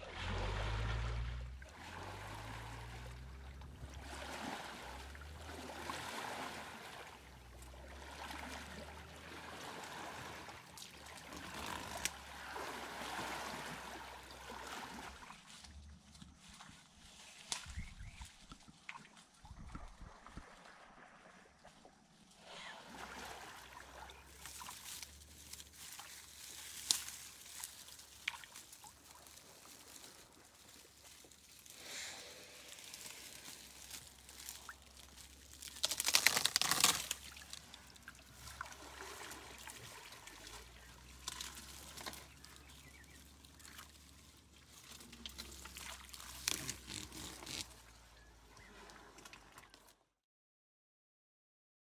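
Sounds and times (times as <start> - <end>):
small splashes: 0.0 - 16.1, 18.4 - 50.0
water trickling and sloshing: 0.0 - 50.2.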